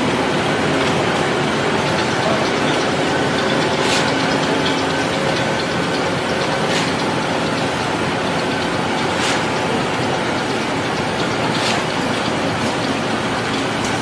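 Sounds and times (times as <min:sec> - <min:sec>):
heavy machinery running: 0:00.0 - 0:14.0.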